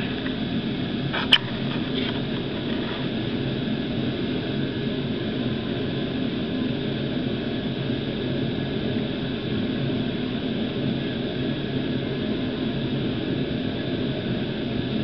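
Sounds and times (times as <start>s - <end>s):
low mechanical drone: 0.0s - 15.0s
steady hiss: 0.0s - 15.0s.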